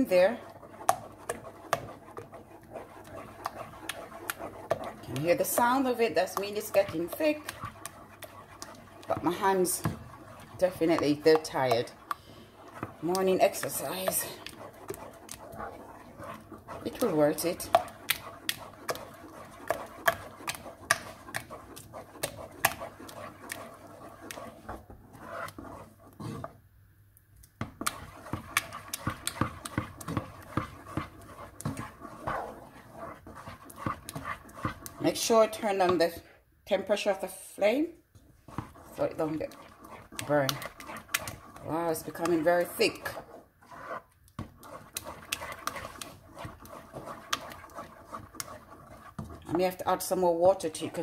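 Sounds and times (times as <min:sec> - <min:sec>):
porridge squelching: 0:00.0 - 0:26.6, 0:27.3 - 0:51.0.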